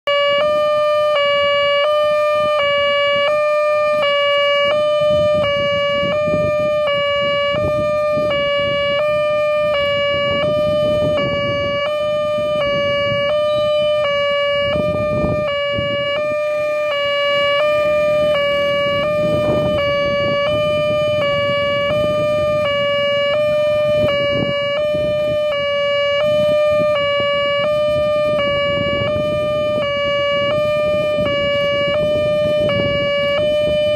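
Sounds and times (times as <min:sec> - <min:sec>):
level crossing warning bell: 0:00.1 - 0:33.9.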